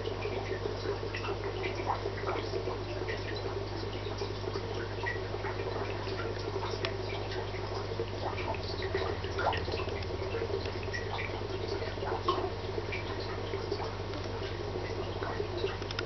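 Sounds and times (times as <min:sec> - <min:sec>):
steady low hum: 0:00.0 - 0:16.0
water trickling and dripping: 0:00.0 - 0:16.0
small ticks and pops: 0:00.3 - 0:16.0.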